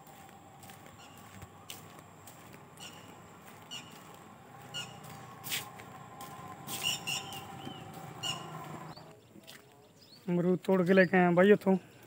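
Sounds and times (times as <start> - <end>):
scuffing noises: 0.0 - 11.0
birds chirping: 0.0 - 12.0.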